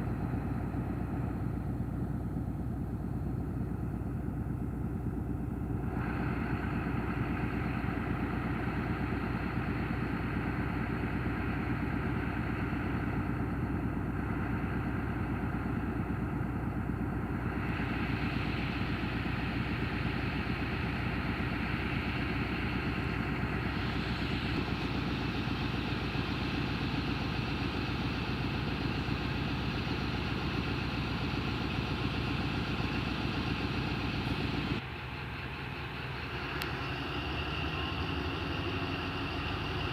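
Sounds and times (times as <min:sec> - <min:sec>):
diesel locomotive engine chugging: 0:00.0 - 0:39.9.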